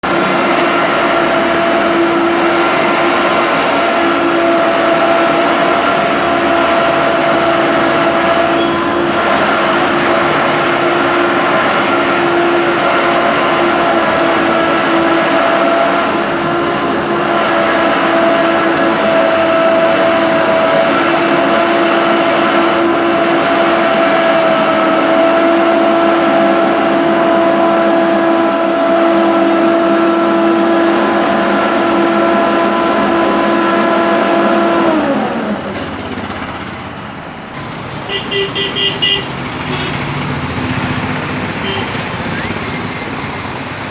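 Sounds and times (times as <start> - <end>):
machine engine running: 0.0 - 43.9.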